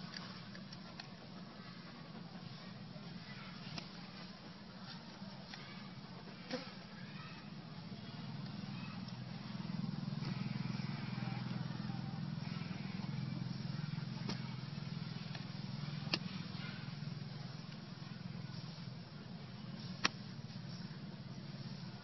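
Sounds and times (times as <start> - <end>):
motor engine running: 0.0 - 22.0.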